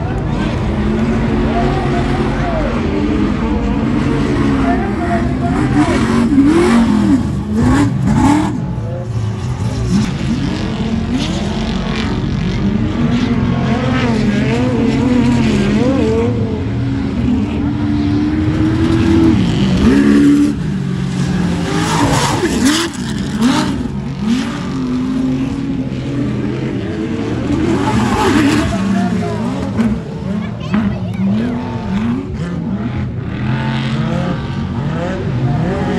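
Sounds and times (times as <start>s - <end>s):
race truck engines revving: 0.0s - 35.9s.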